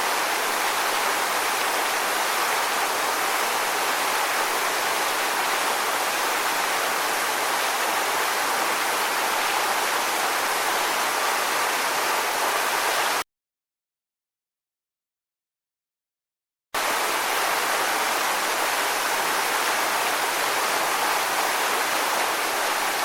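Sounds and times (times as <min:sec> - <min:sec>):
rushing water: 0:00.0 - 0:13.2, 0:16.8 - 0:23.0.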